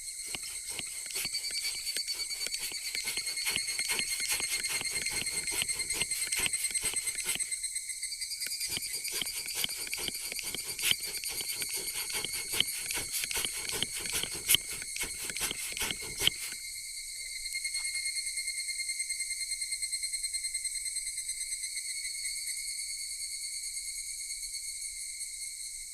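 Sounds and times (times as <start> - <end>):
crickets chirping: 0.0 - 25.9.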